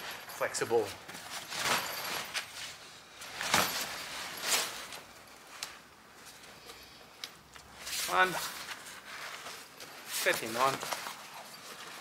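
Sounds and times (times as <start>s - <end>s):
canvas rustling and scraping: 0.0s - 7.0s, 7.6s - 12.0s.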